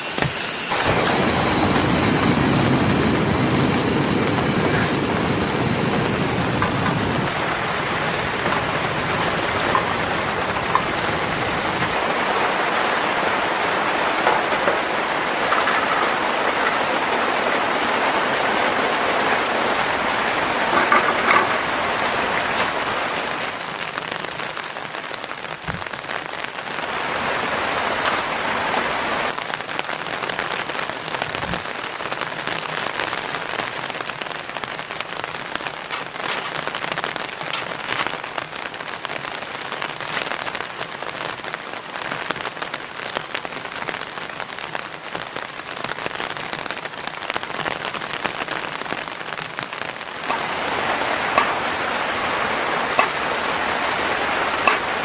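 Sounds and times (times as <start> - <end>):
steady rain: 0.0 - 55.0
rain drop clicks: 0.7 - 28.4, 29.2 - 55.0.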